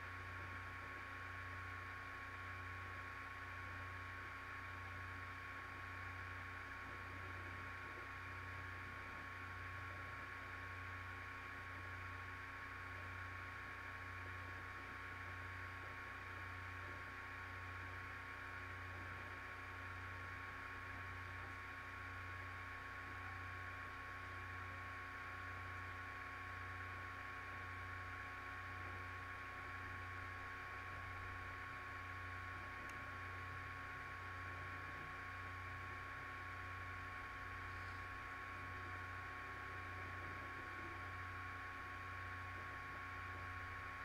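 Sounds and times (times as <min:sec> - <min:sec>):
electrical hum and hiss: 0:00.0 - 0:44.0.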